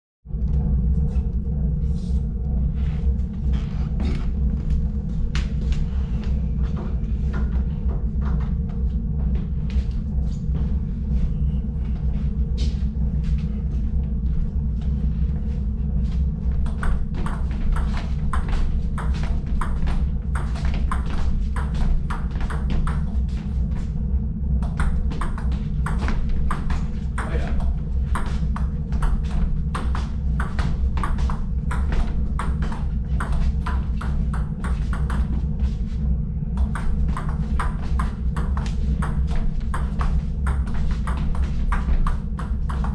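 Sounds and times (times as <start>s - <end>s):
steady low hum: 0.3s - 42.9s.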